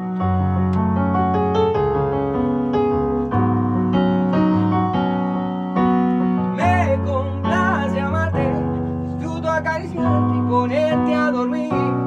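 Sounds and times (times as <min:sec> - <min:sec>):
electric piano chords: 0:00.0 - 0:12.0
low bass line: 0:00.0 - 0:12.0.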